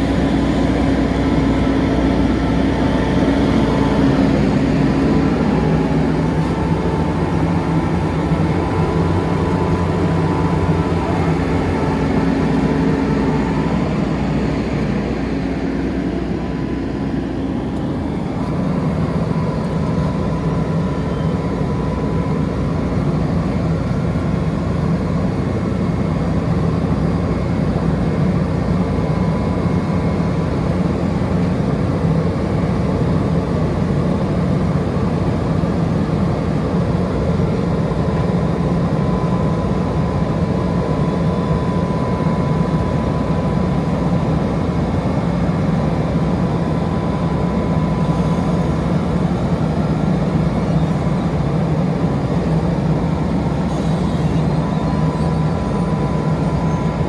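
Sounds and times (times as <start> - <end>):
diesel engine running: 0.0 - 57.0
thin steady whine: 0.0 - 57.0.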